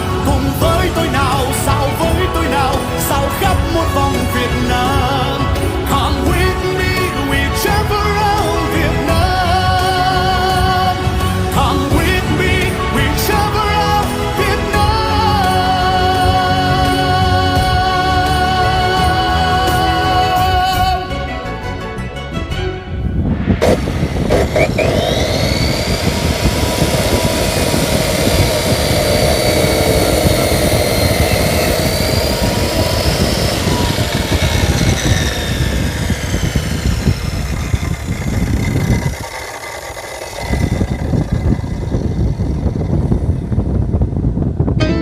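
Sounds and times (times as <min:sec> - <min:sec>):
power saw motor whining: 0:00.0 - 0:22.6, 0:23.6 - 0:44.5
low rumble: 0:00.0 - 0:45.0.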